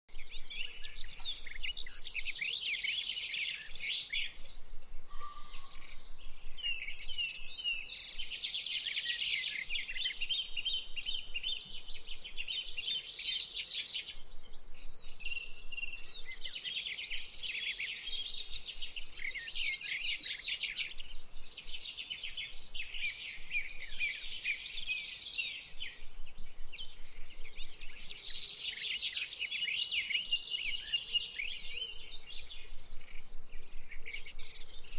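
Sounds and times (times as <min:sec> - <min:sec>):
small birds chirping and twittering: 0:00.1 - 0:34.9.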